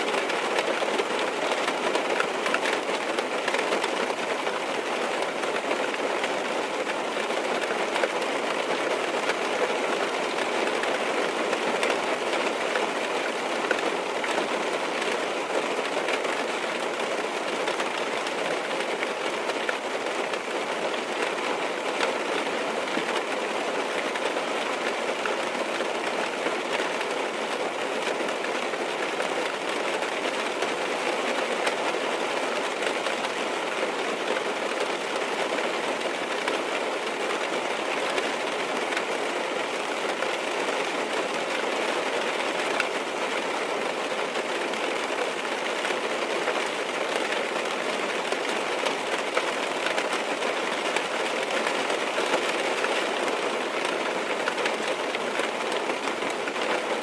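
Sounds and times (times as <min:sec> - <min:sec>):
rain on car roof: 0:00.0 - 0:57.0.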